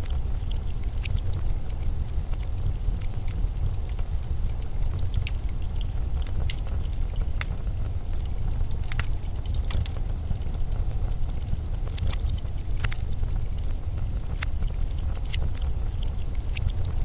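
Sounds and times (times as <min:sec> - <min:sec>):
sharp crackles and ticks: 0:00.0 - 0:17.0.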